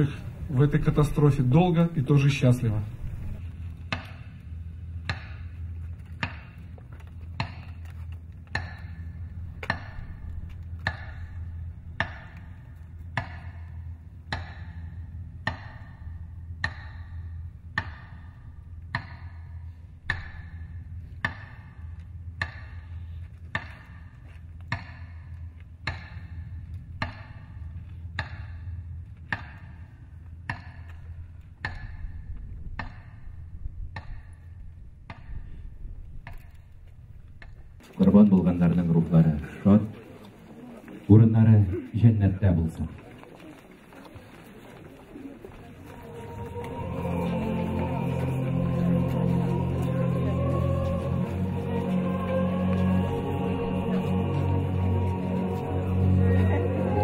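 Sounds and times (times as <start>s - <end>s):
low hum: 0.0s - 41.9s, 42.7s - 57.0s.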